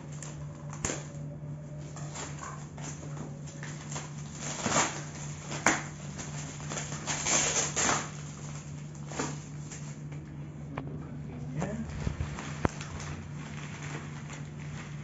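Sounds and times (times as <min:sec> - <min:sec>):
plastic wrapping crinkling: 0:00.0 - 0:10.2, 0:11.6 - 0:15.0.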